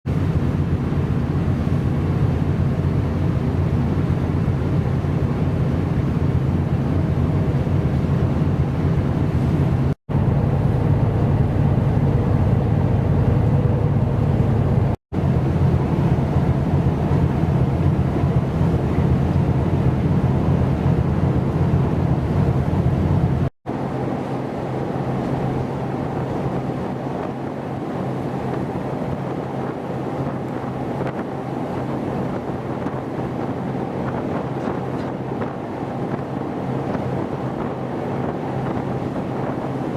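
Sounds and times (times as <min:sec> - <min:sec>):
sea noise: 0:00.1 - 0:39.9
ship engine drone: 0:00.1 - 0:39.9
wind on microphone: 0:00.1 - 0:39.9.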